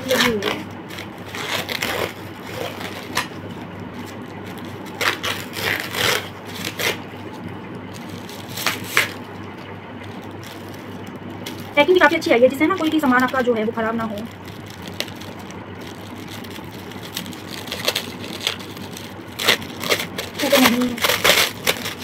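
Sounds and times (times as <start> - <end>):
plastic packaging crackling: 0.0 - 22.0.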